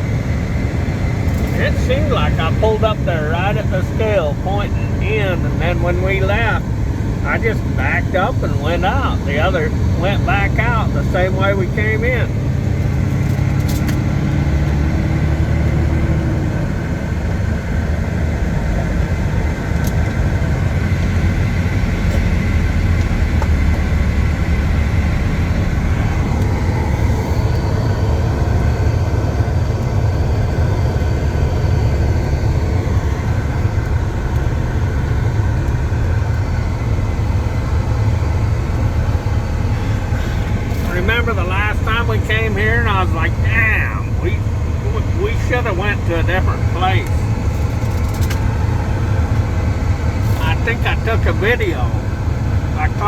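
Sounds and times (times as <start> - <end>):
diesel truck engine drone: 0.0 - 53.0.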